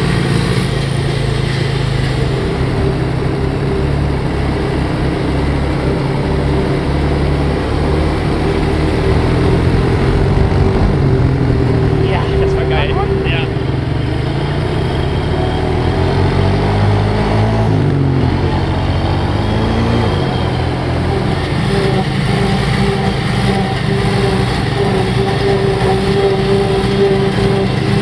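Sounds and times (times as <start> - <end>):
forage harvester drone and whine: 0.0 - 28.0
tractor engine under load: 0.0 - 28.0.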